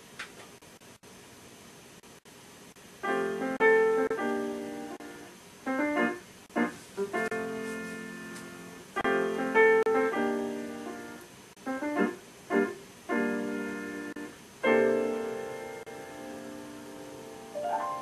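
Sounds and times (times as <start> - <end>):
piano chords ringing: 3.0 - 18.0.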